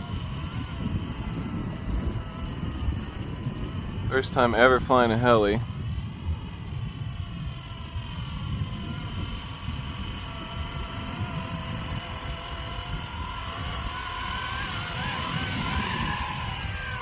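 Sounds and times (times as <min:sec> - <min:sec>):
rc helicopter rotors whining: 0:00.0 - 0:17.0
wind rumbling on microphone: 0:00.0 - 0:17.0.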